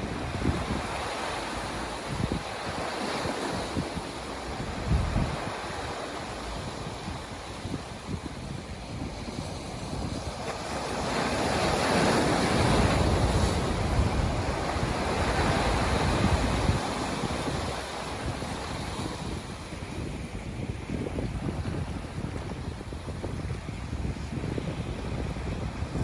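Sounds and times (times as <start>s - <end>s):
ocean waves washing in: 0.0s - 26.0s
wind buffeting microphone: 0.0s - 26.0s.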